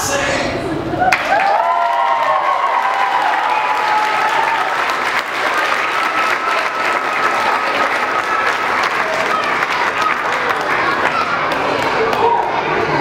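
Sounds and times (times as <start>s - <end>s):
crowd applauding: 1.1s - 12.8s.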